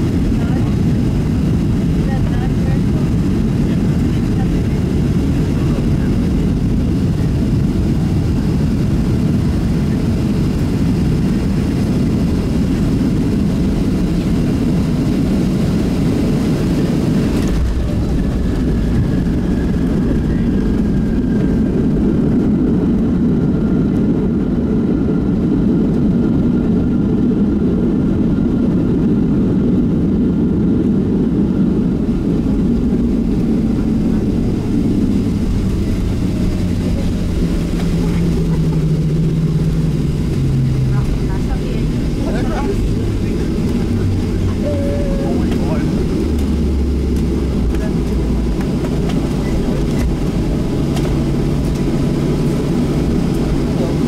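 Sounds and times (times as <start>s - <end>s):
jet engines in cabin: 0.0s - 54.0s.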